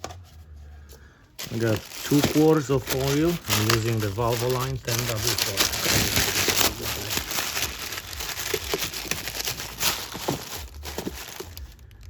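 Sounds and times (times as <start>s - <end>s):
plastic crinkling: 1.4s - 12.0s.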